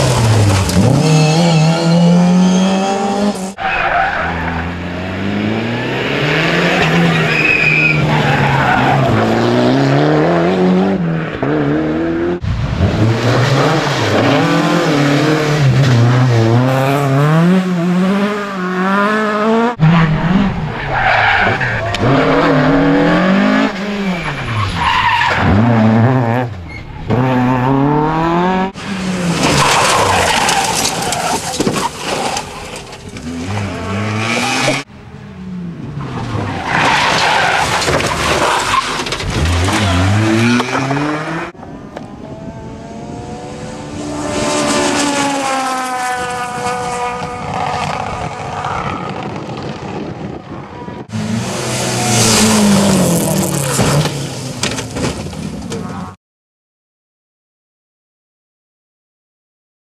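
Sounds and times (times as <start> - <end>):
rally car engines revving: 0.0 - 56.2.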